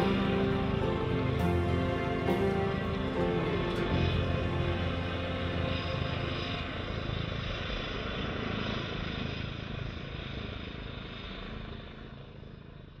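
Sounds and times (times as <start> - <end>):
aircraft engine noise: 0.0 - 12.9.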